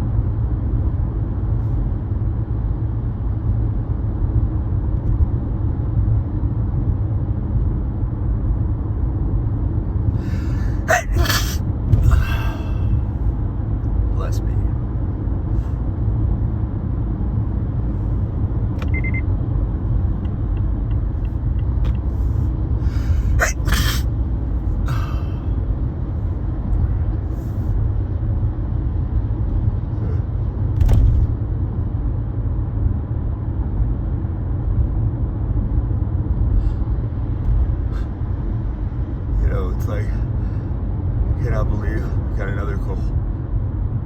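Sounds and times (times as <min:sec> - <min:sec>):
low background rumble: 0:00.0 - 0:44.0.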